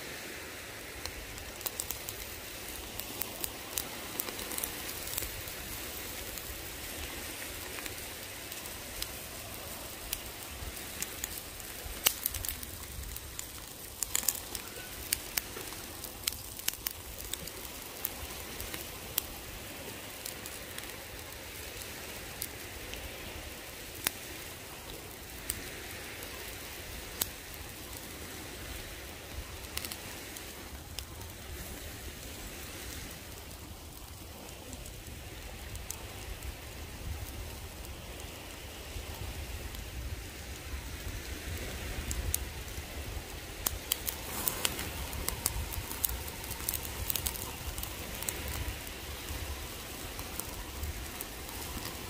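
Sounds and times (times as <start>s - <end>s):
fire crackles and pops: 0.0s - 52.0s
steak sizzling over fire: 0.0s - 52.0s.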